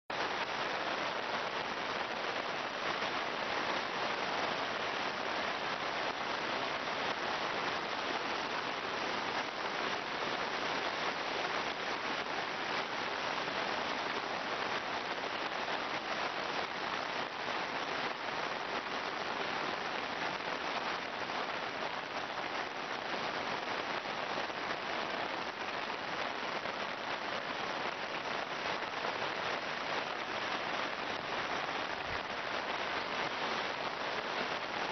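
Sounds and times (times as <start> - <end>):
falling rain: 0.1 - 34.9
stream rushing: 0.2 - 34.9.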